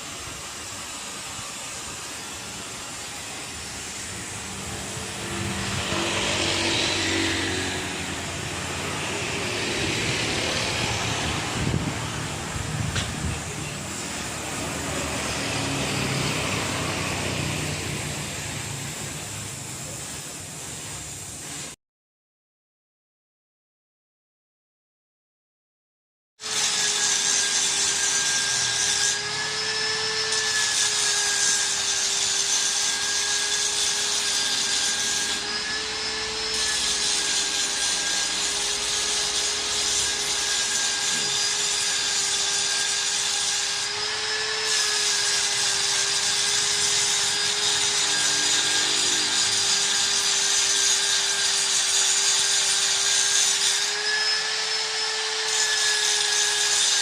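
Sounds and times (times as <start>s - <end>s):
electric power tool whining: 0.0s - 19.1s, 26.4s - 57.0s.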